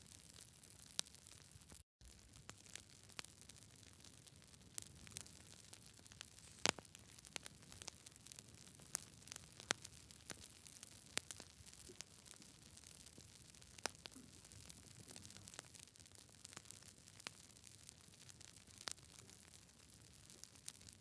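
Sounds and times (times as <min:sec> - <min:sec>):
wood fire crackling: 0:00.1 - 0:21.0.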